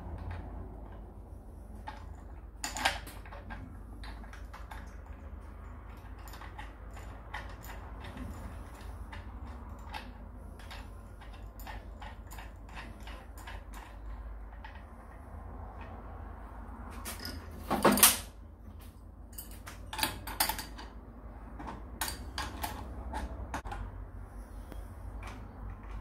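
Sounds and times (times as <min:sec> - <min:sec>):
roller chain clicking and rattling: 0:00.0 - 0:18.3, 0:19.3 - 0:23.9.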